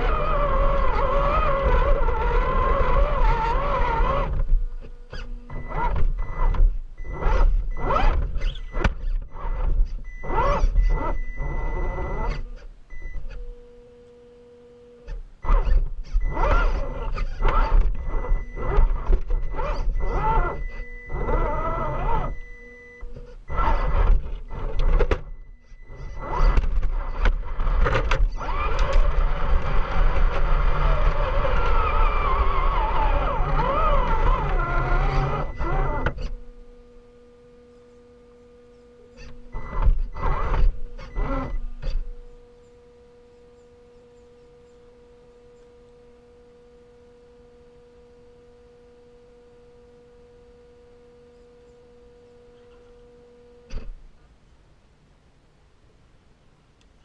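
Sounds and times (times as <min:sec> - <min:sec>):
electric motor and gears whining: 0:00.0 - 0:54.1.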